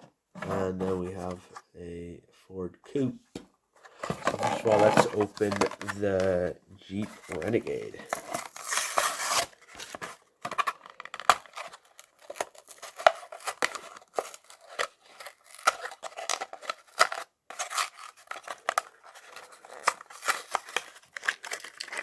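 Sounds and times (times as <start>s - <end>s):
cardboard and plastic rustling: 0.0s - 1.7s, 3.8s - 22.0s.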